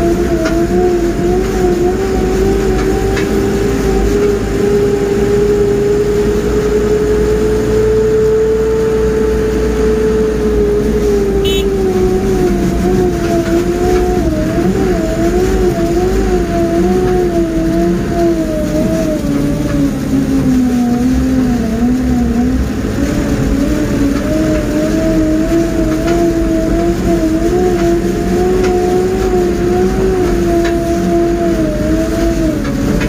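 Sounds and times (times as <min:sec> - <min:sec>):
engine rumble: 0:00.0 - 0:33.0.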